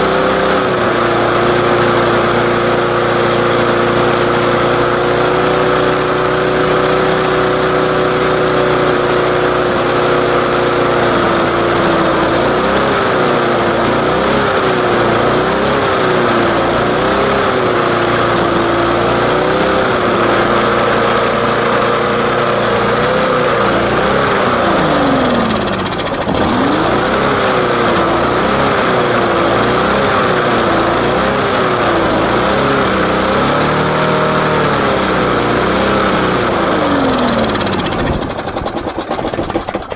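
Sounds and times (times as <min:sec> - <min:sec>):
lawnmower engine running: 0:00.0 - 0:39.9.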